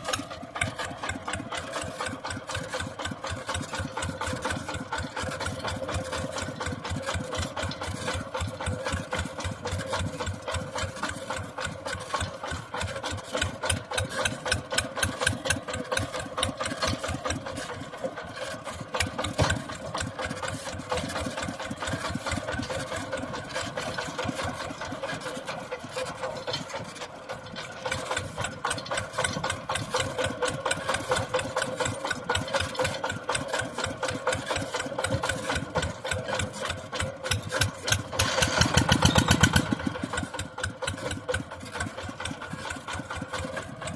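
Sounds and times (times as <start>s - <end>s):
mini tractor engine running: 0.0s - 43.9s.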